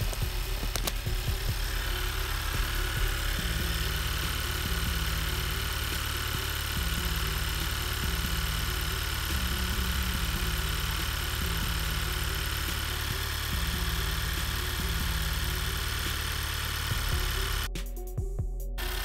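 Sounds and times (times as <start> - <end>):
car engine idling: 0.0 - 17.7, 18.8 - 19.0.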